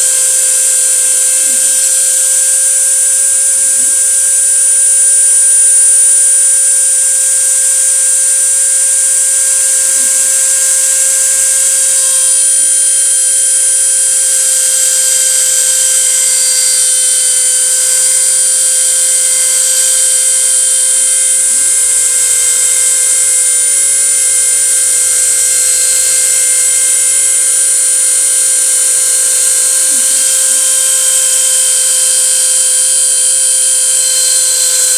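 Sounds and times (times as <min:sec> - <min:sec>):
lower tone: 0:00.0 - 0:34.9
router spindle whining: 0:00.0 - 0:34.9.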